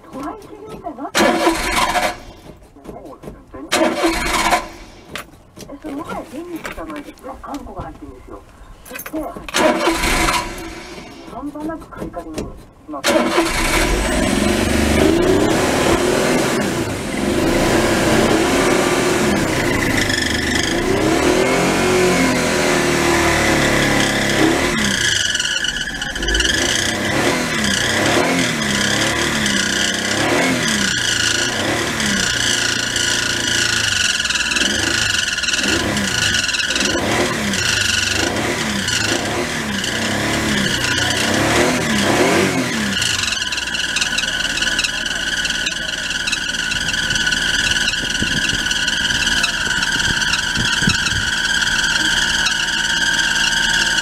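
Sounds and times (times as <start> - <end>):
truck engine revving: 0.0 - 2.6, 3.6 - 5.3, 9.5 - 11.5, 13.0 - 54.0.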